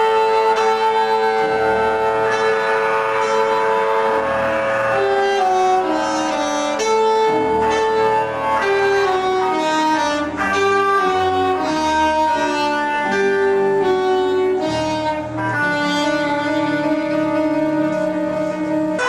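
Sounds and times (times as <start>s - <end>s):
keyboards: 0.0s - 19.0s
saxophone melody: 0.0s - 19.0s.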